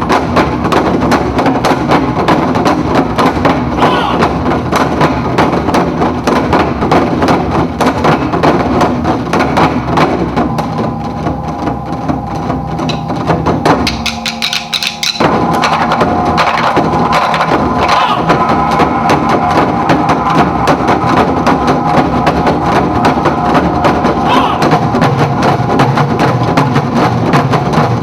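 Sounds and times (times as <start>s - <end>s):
dance music with fast percussion: 0.0s - 28.0s.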